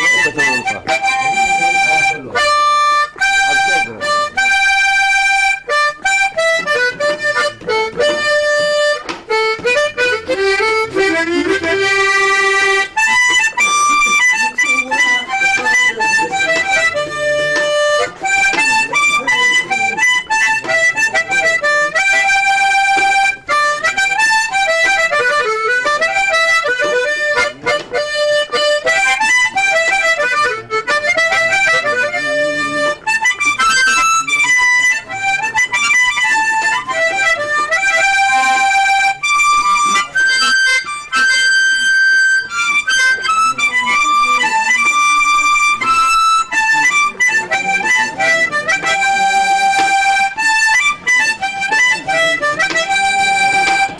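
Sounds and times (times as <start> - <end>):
harmonica melody: 0.0 - 53.9.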